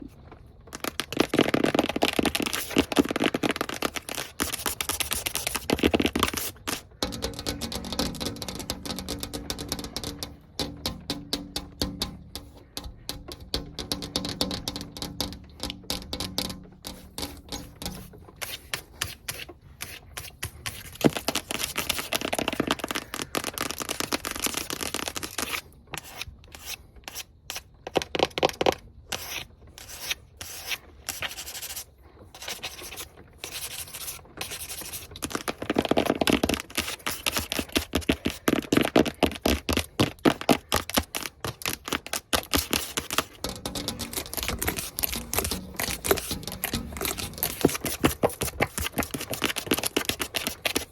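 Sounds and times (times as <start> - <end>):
fingernails scratching and tapping: 0.7 - 50.9.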